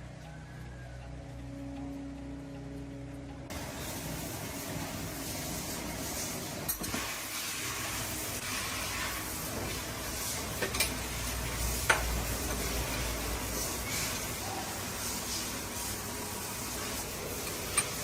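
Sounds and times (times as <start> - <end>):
steady hiss: 3.5 - 18.0.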